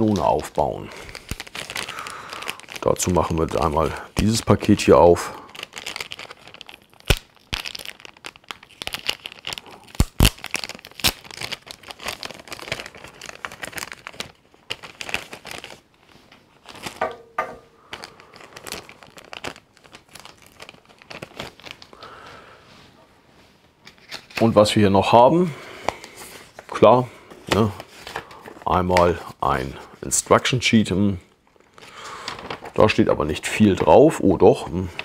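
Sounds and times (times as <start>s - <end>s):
packaging crinkling and tearing: 0.0s - 22.4s, 23.8s - 24.8s, 25.7s - 30.6s, 31.5s - 35.0s.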